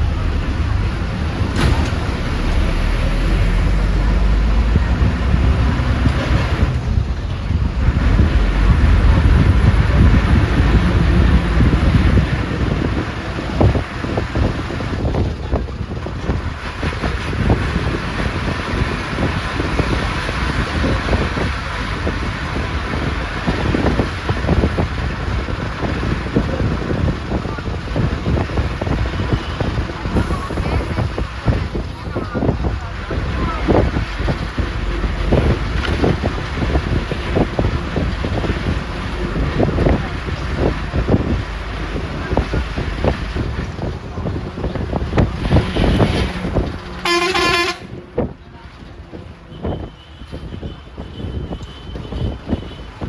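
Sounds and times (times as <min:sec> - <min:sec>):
rattles and knocks from bus body: 0:00.0 - 0:47.0
bus engine and road rumble: 0:00.0 - 0:53.0.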